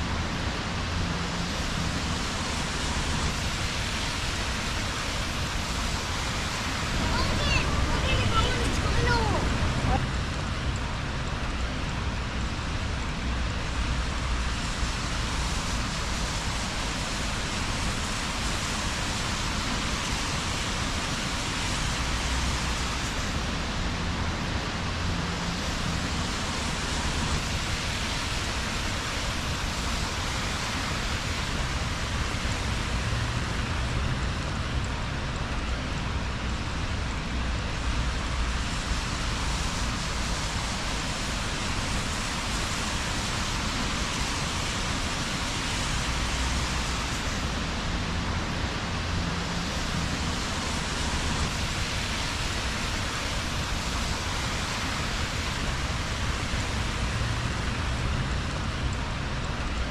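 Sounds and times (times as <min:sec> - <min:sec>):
rain hissing on wet street: 0:00.0 - 0:59.9.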